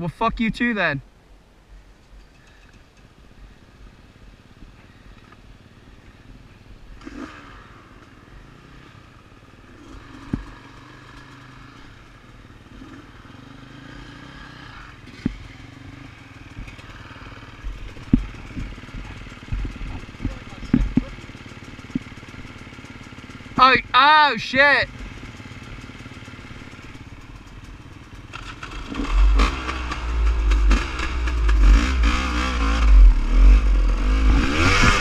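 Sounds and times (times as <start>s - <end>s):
dirt bike engines at low revs: 2.2s - 35.0s.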